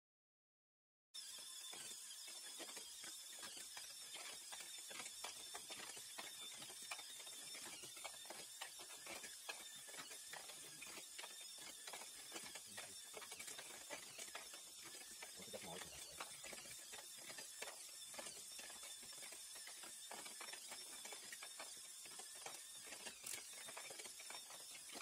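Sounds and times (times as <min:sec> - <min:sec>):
rattling clicks of rollers and gears: 0:01.2 - 0:25.0
small robot motors running: 0:01.2 - 0:25.0.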